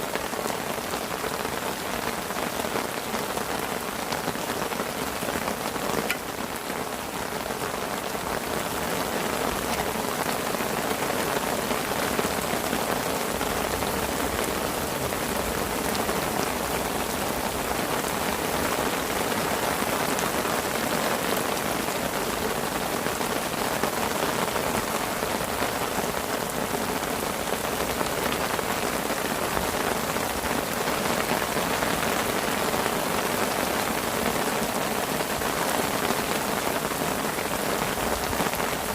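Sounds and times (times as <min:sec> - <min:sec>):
rain on a parasol canopy: 0:00.0 - 0:38.9.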